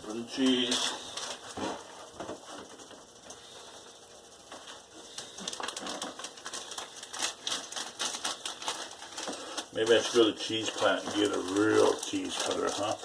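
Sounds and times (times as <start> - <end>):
plastic bag rustling and crinkling: 0.1 - 13.0.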